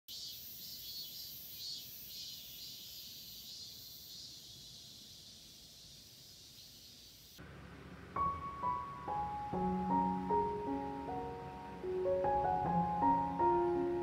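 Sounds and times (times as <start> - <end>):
high insect hiss: 0.1 - 13.8
insects droning: 0.1 - 13.9.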